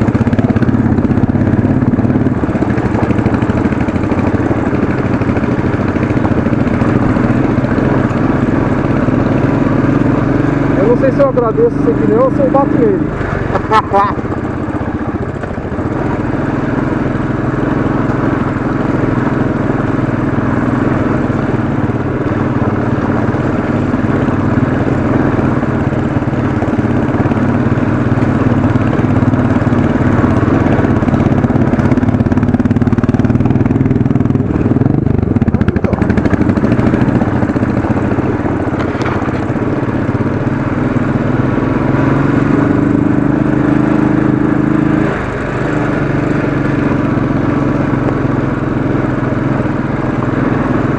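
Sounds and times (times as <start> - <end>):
motorcycle engine climbing: 0.0 - 50.9.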